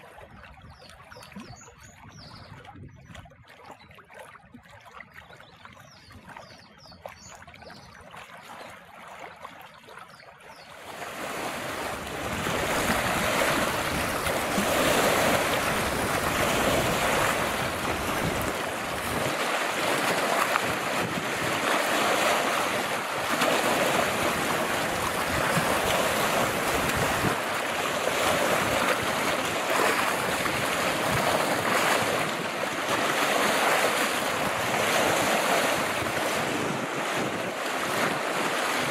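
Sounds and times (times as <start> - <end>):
wind on microphone: 0.0 - 3.6, 10.8 - 38.9
waves lapping against rocky shore: 0.0 - 38.9.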